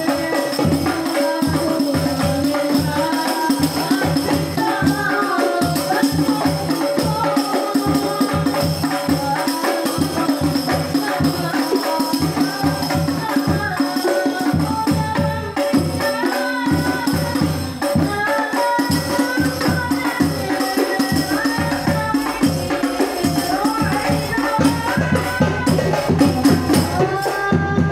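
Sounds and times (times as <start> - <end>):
boys singing: 0.0 - 27.9
frame drums beating: 0.0 - 27.9.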